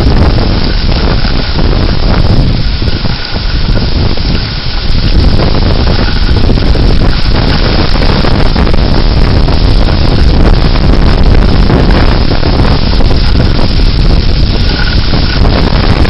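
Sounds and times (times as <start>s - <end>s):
severe storm wind buffeting microphone: 0.0s - 16.0s.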